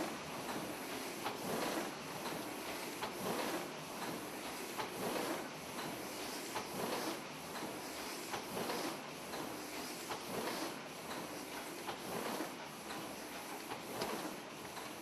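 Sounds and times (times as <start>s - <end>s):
printing press clatter: 0.0s - 15.0s.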